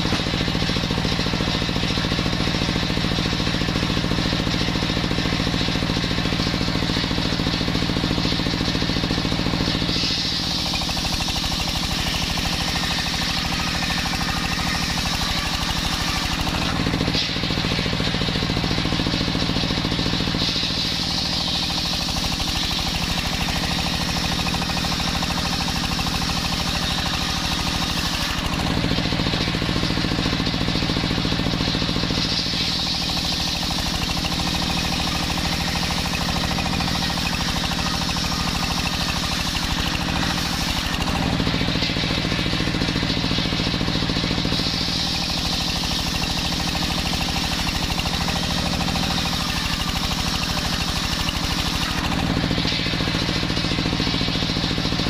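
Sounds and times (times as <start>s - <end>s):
circular saw cutting wood: 0.0s - 55.0s
drive motor hum: 0.0s - 55.0s.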